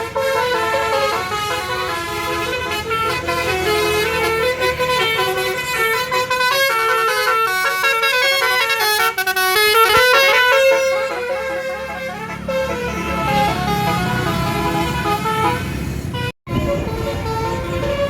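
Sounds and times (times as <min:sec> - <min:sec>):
musical air horn playing a tune: 0:00.0 - 0:18.0.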